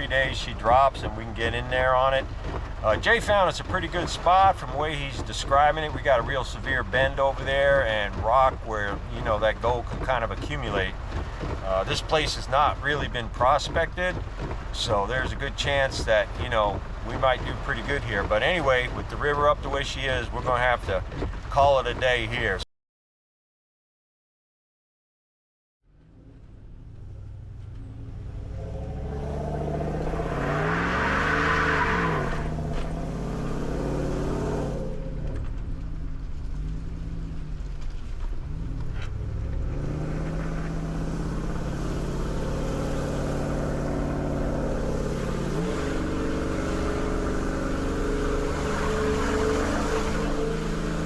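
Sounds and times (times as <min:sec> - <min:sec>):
vehicle engine revving: 0:00.0 - 0:18.9, 0:25.9 - 0:51.0.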